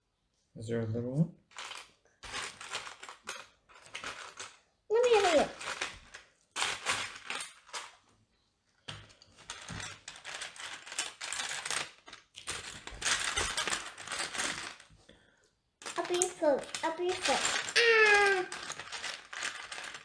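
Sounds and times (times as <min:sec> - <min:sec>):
plastic toy bricks clattering: 0:01.5 - 0:08.0, 0:09.1 - 0:14.9, 0:15.8 - 0:20.0.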